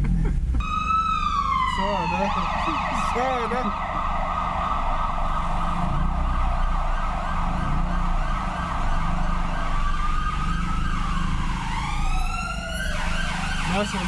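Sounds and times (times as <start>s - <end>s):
car engine and road noise: 0.0s - 14.0s
ambulance siren: 0.6s - 14.0s.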